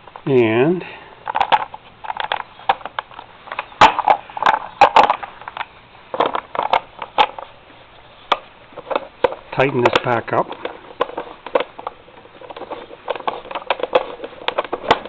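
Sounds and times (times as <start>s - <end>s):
plastic cover clicking and scraping: 1.2s - 7.5s, 8.2s - 15.0s.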